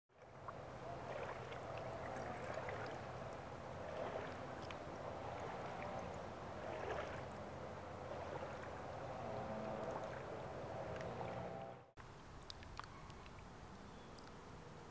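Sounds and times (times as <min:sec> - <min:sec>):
pool water lapping and gurgling: 0:00.1 - 0:14.9
small water splashes and drips: 0:00.1 - 0:14.9
low steady hum: 0:00.2 - 0:14.9.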